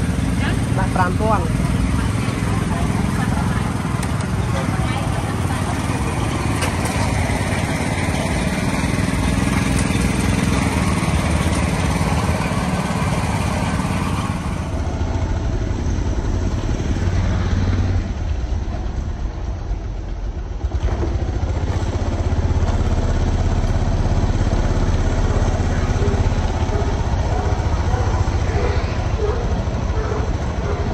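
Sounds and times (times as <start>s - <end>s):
small motorbike engine: 0.0s - 18.4s, 20.4s - 30.9s
street noise: 0.0s - 30.9s.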